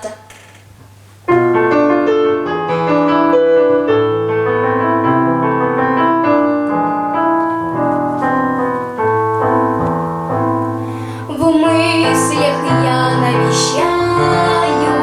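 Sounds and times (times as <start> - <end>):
electronic keyboard melody: 1.3 - 15.0.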